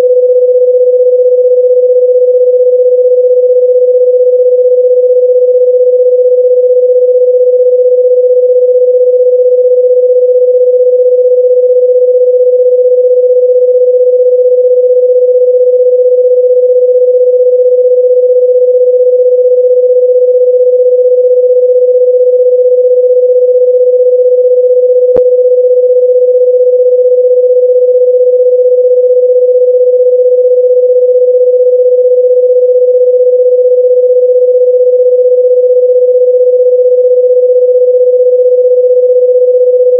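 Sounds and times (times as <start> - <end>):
electronic sine-wave tone: 0.0 - 39.9.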